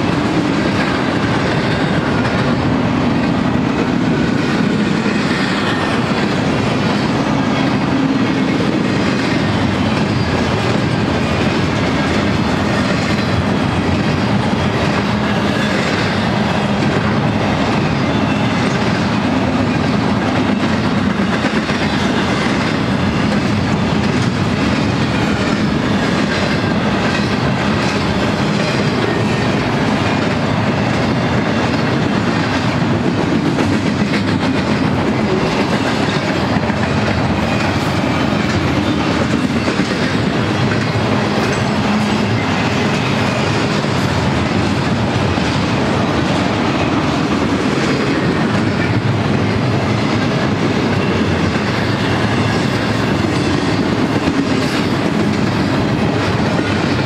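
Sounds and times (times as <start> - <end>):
steel train wheels on rails: 0.0 - 57.0.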